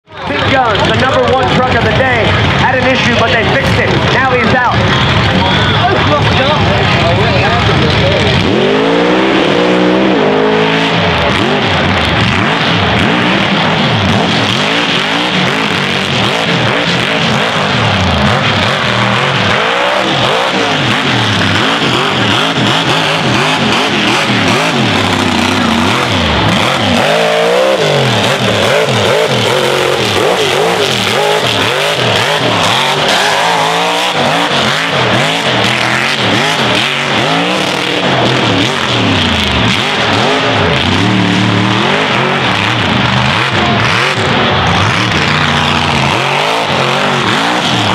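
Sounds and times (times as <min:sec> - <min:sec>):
truck engine revving hard: 0:00.0 - 0:47.9.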